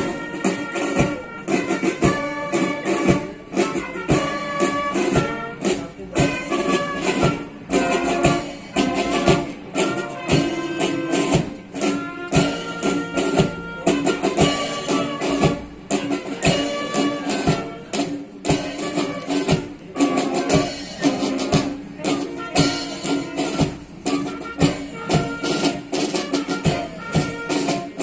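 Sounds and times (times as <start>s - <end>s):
brass and woodwind melody: 0.0s - 28.0s
steady drum beat: 0.0s - 28.0s.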